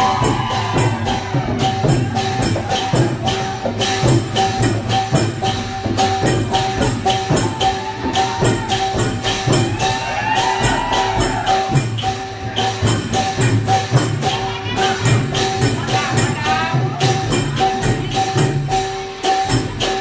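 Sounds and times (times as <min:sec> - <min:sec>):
percussion band music: 0:00.0 - 0:20.0.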